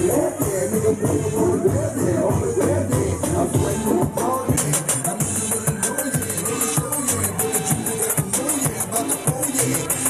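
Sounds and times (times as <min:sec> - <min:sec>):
loud music with steady beat: 0:00.0 - 0:10.0.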